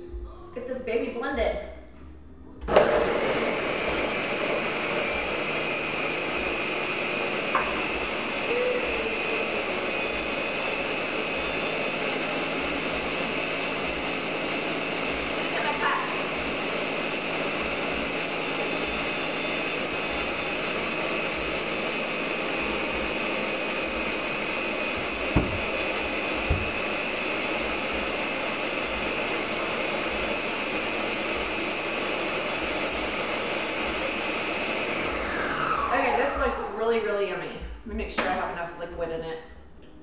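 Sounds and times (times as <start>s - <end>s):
blender running: 2.7s - 37.2s.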